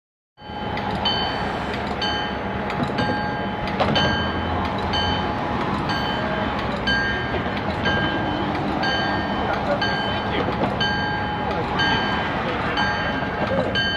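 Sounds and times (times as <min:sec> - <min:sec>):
high ringing: 0:00.4 - 0:13.9
rail joint clicks: 0:00.4 - 0:13.9
train wheels rumbling on rails: 0:00.4 - 0:13.9.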